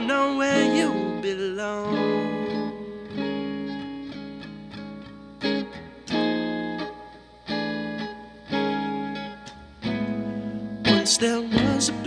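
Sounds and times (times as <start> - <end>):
guitar chords ringing: 0.0 - 12.0.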